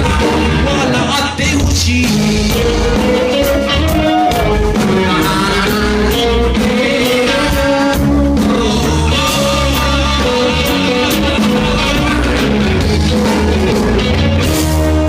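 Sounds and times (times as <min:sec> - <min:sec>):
rock band playing: 0:00.0 - 0:15.0
steady drum beat: 0:00.0 - 0:15.0.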